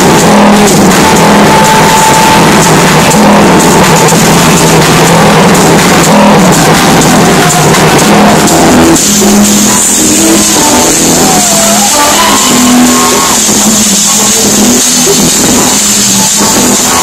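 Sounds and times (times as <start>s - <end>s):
loud electronic dance music: 0.0s - 17.0s.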